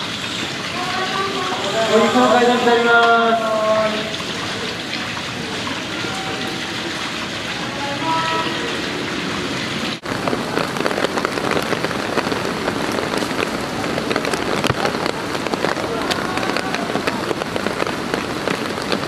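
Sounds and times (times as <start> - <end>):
heavy rain hissing: 0.0 - 19.0
raindrops crackling on hard surfaces: 0.0 - 19.0.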